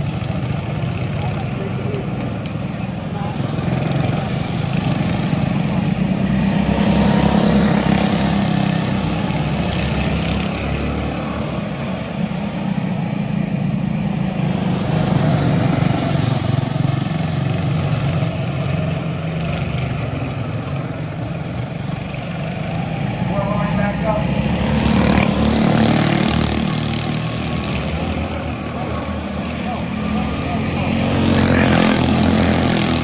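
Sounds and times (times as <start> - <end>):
race car engines running: 0.0 - 33.0.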